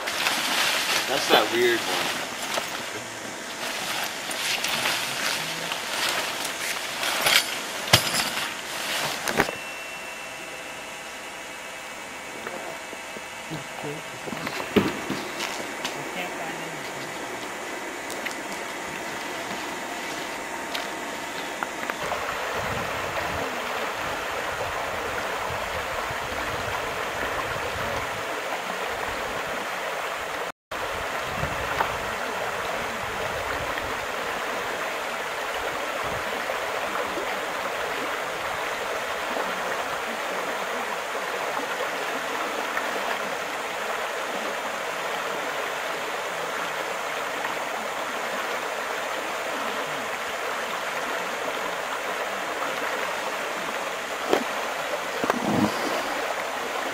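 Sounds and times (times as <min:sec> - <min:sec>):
river water rushing over rapids: 0:00.0 - 0:09.5, 0:15.3 - 0:56.9.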